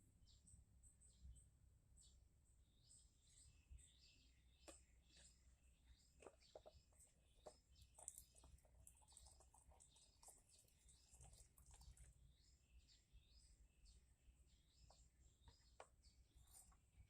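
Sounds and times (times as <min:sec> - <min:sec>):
faint bird chirps: 0:00.1 - 0:17.0.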